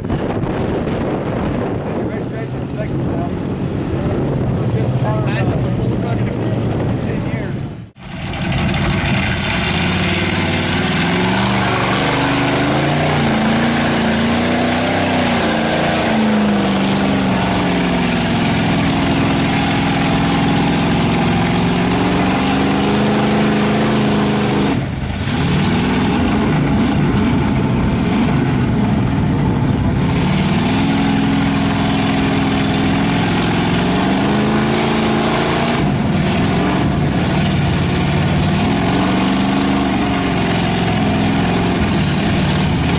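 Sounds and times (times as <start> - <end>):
truck engine revving: 0.8 - 42.9.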